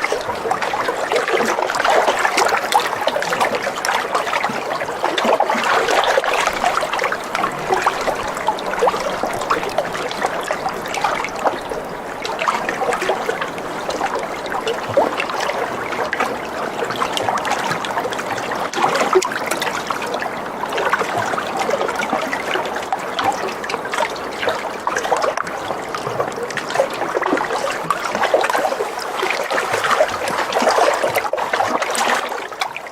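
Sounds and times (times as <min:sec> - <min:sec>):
water trickling and splashing: 0:00.0 - 0:32.9.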